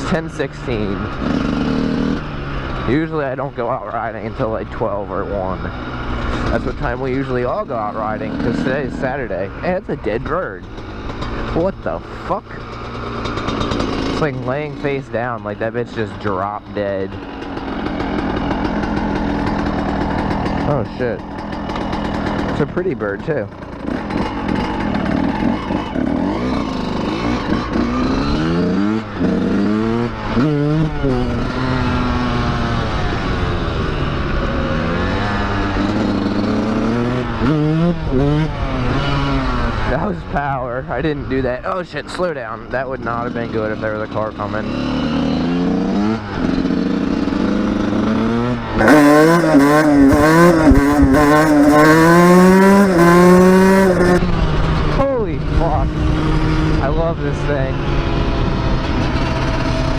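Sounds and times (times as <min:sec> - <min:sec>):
two-stroke dirt bike engine accelerating: 0:00.0 - 0:59.9.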